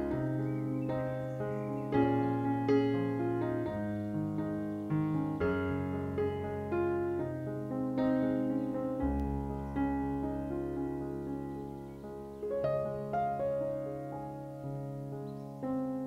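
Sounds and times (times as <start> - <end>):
calm piano music: 0.0 - 16.0.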